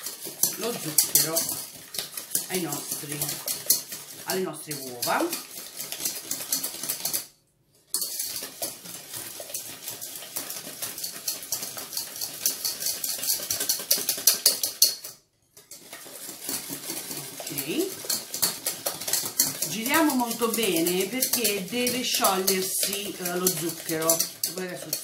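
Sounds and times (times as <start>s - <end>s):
whisk clicking against metal bowl: 0.0s - 7.3s, 7.9s - 25.0s.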